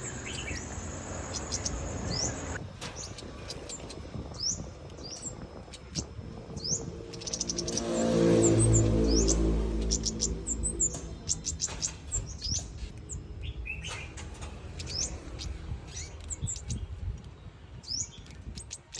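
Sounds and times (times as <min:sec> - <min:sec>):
bird chirps and rising calls: 0:00.0 - 0:02.6, 0:03.5 - 0:16.8.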